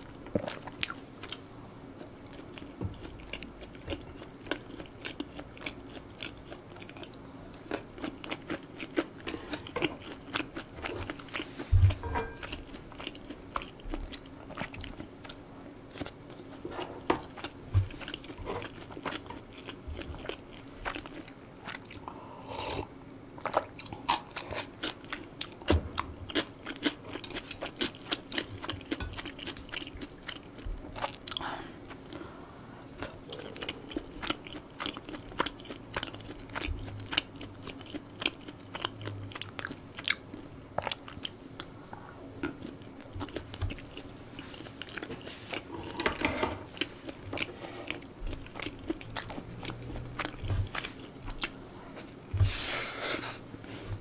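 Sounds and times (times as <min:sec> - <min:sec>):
person chewing and eating: 0:00.0 - 0:32.3, 0:32.9 - 0:54.0.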